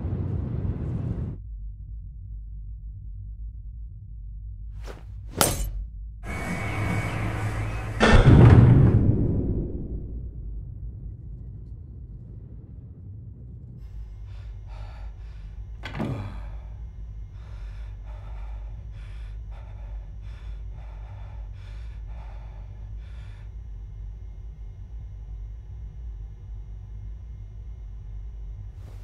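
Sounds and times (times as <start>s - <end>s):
low steady drone: 5.5s - 29.0s.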